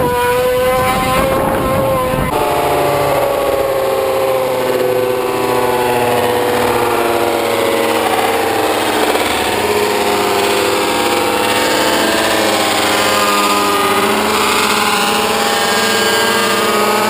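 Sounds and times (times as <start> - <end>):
racing motorcycles passing at high revs: 0.0 - 17.0.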